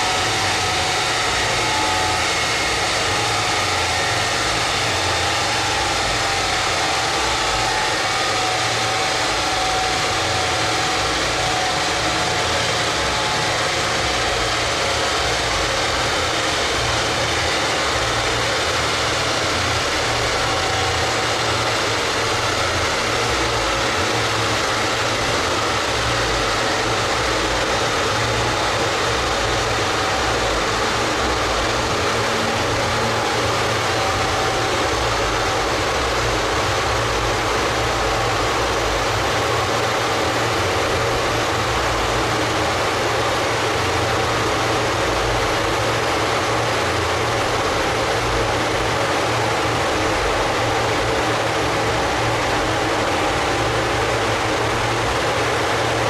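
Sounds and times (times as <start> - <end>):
car engine idling: 0.0 - 56.0
large cooling fan blowing: 0.0 - 56.0.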